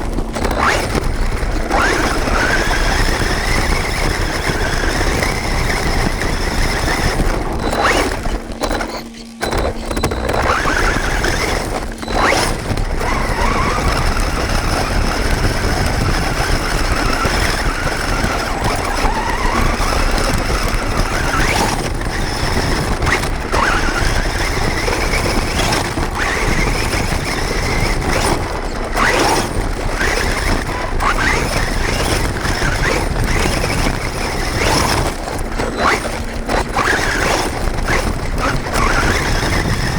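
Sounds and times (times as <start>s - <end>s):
electric motor whining: 0.0s - 39.9s
rattling rush of gears and tyres: 0.0s - 39.9s.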